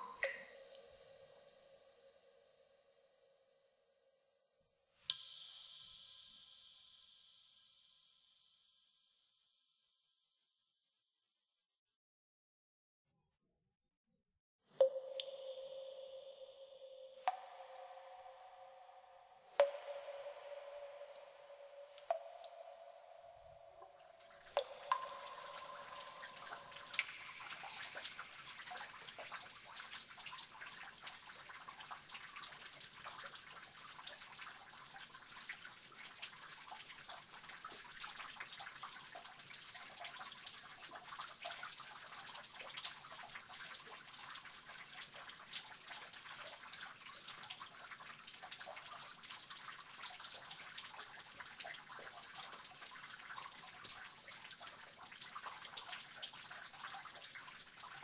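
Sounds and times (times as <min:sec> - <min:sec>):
water dripping in a cave: 0:00.0 - 0:09.5, 0:14.7 - 0:58.0.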